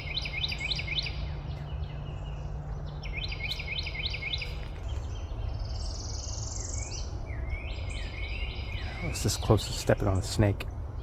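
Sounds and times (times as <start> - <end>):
songbird chirping notes: 0.0 - 11.0
steady low rumble: 0.0 - 11.0.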